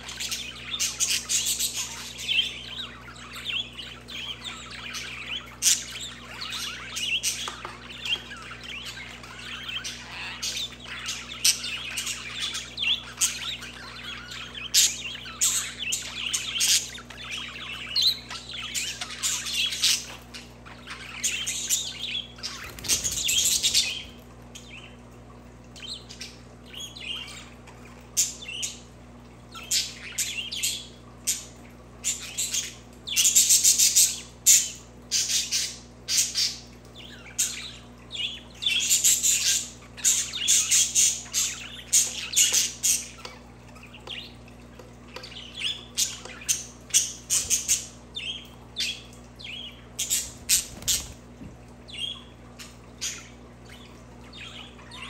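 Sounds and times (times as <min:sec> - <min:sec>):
budgerigars chirping: 0:00.0 - 0:25.0, 0:29.5 - 0:44.5, 0:45.1 - 0:51.2.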